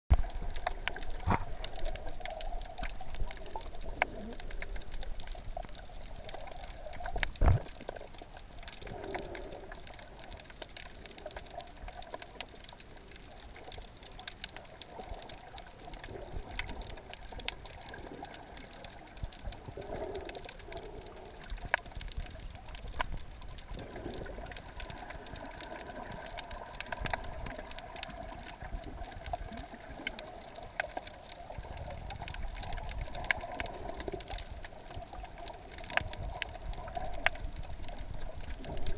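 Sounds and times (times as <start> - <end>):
muffled underwater noise: 0.1 - 38.9.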